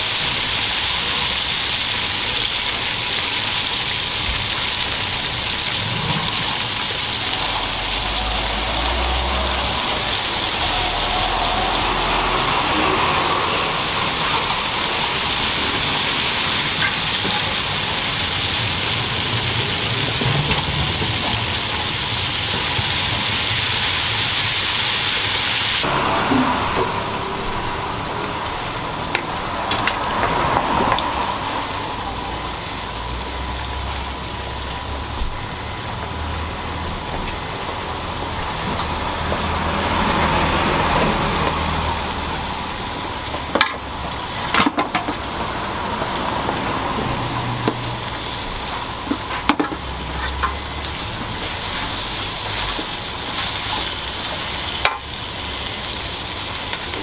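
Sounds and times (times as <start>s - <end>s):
food sizzling in oil: 0.0s - 31.8s, 32.4s - 57.0s.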